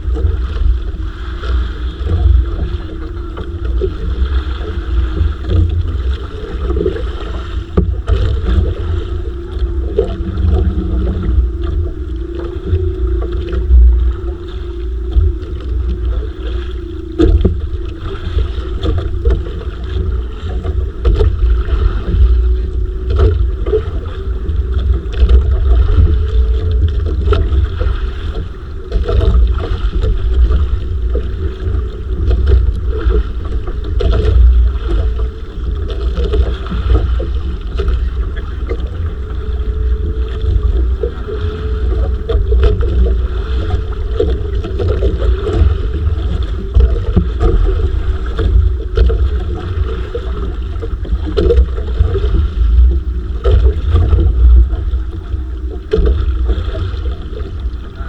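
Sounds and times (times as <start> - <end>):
steady wavering hum: 0.0 - 58.0
water splashing against hull: 0.0 - 58.0.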